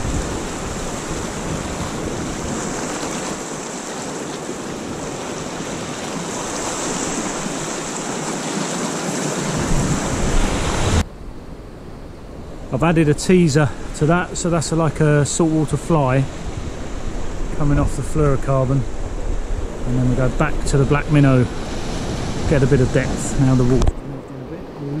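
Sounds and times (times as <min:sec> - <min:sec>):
waves breaking on rocks: 0:00.0 - 0:11.0, 0:12.7 - 0:24.0
wind rumbling on microphone: 0:00.0 - 0:25.0.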